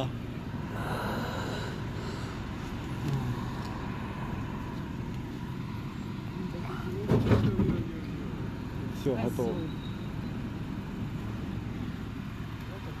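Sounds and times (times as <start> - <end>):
bus engine rumble: 0.0 - 13.0
road noise: 0.0 - 13.0.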